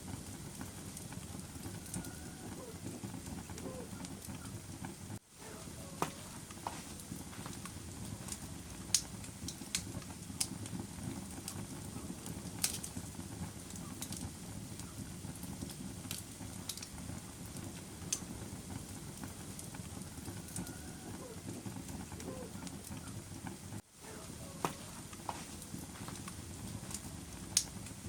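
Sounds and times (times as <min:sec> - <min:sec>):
fire crackling in fireplace: 0:00.0 - 0:28.0.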